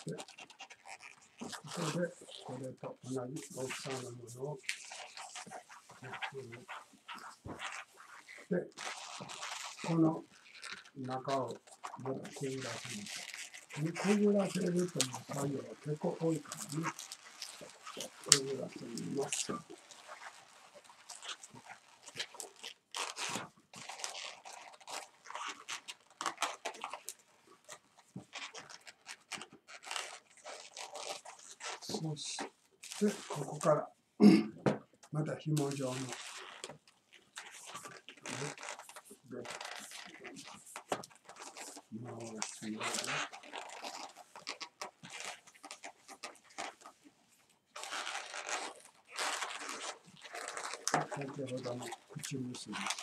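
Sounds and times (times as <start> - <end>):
rustles: 0.0 - 33.8, 35.6 - 53.0
balloon squeaking and rubbing: 0.0 - 53.0.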